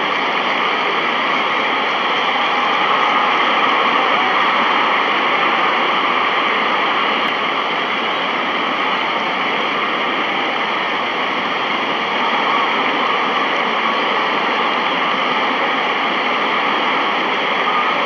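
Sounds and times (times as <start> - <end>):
steady loud rushing noise: 0.0 - 18.0.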